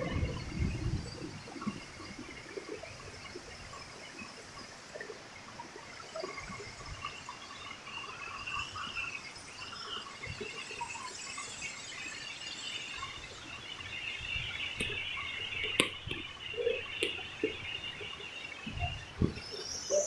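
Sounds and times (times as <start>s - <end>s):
flowing water hiss: 0.0s - 20.0s.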